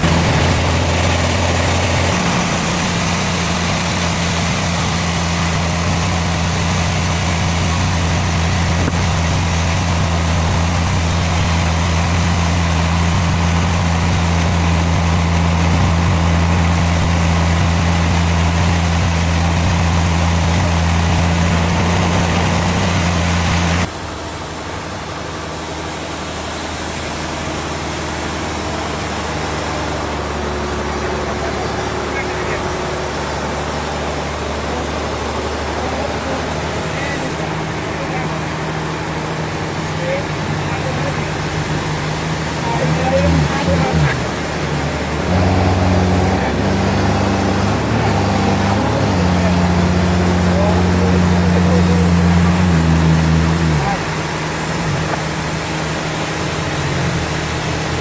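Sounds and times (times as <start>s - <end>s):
quieter machine noise: 0.0s - 58.0s
sawmill machinery running: 0.0s - 58.0s.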